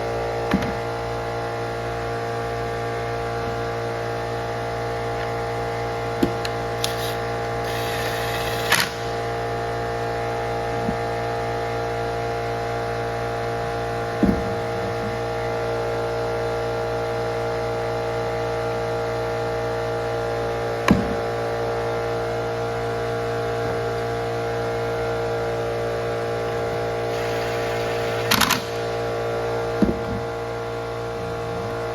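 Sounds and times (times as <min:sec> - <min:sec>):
electrical hum: 0:00.0 - 0:31.9.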